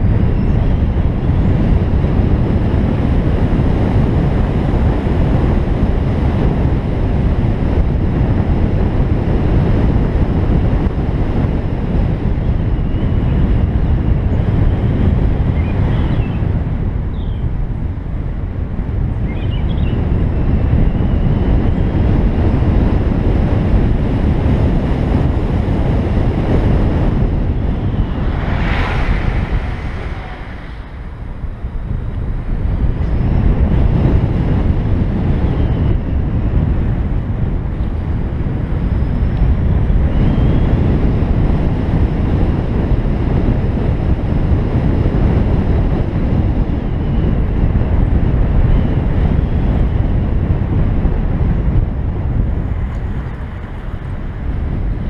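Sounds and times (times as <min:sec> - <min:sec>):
car tyre noise on road: 0:00.0 - 0:55.0
wind buffeting microphone: 0:00.0 - 0:55.0.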